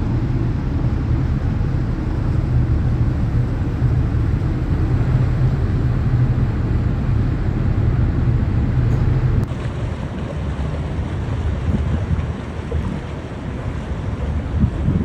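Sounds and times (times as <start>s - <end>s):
cargo ship rumbling: 0.0s - 15.0s
wind on microphone: 0.0s - 15.0s.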